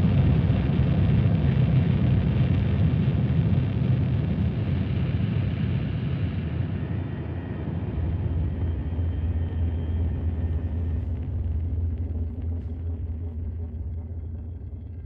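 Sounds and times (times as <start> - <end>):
dark ambient low rumble drone: 0.0 - 15.0.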